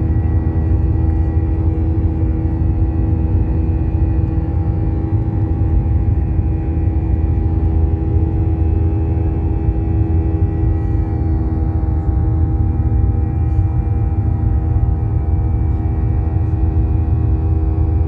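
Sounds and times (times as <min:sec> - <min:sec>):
jet engine cabin rumble: 0:00.0 - 0:18.0
steady engine hum: 0:00.0 - 0:18.0.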